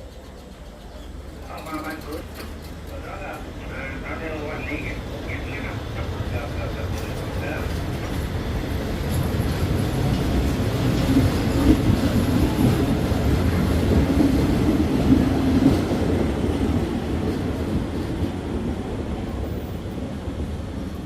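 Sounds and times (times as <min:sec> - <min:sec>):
train wheel clatter: 0:00.0 - 0:04.8, 0:05.4 - 0:18.5
train rumbling on rails: 0:00.0 - 0:21.0.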